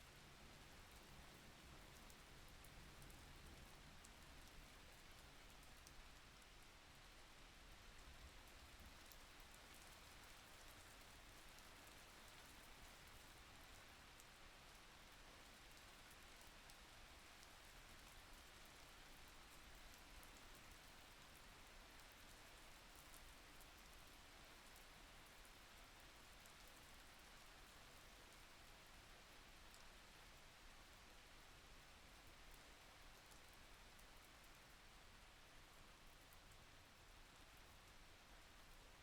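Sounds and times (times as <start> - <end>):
steady rain hiss: 0.0 - 39.0
rain drops ticking: 0.2 - 38.8.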